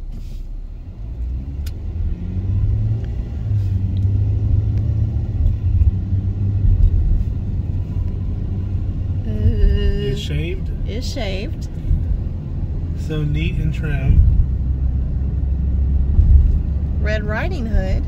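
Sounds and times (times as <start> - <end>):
car driving on road: 0.0 - 18.0.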